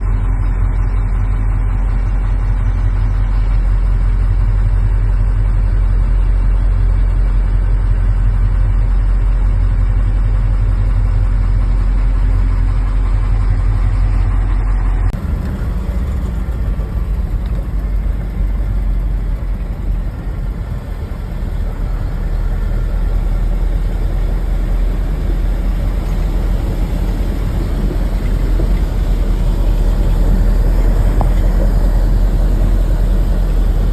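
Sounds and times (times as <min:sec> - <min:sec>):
vehicle engine rumbling: 0:00.0 - 0:33.9.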